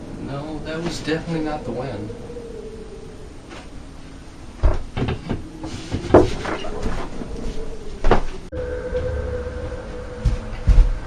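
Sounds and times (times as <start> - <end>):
steady even-pitched hum: 0.0 - 11.0.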